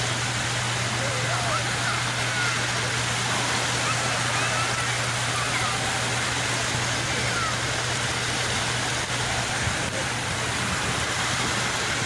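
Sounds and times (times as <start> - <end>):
constant low hum: 0.0 - 12.0
sea waves rushing: 0.0 - 12.0.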